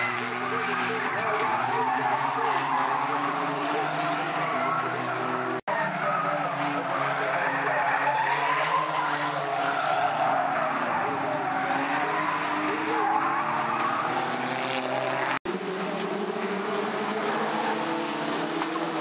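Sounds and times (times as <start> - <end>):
car engines revving: 0.0 - 19.0
tyres skidding: 0.0 - 19.0.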